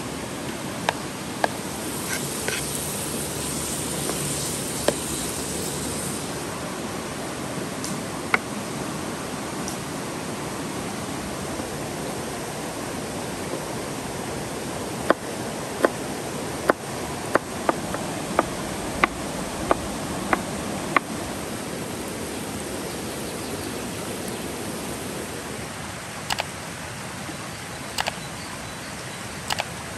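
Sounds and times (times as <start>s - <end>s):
river rushing: 0.0s - 29.9s.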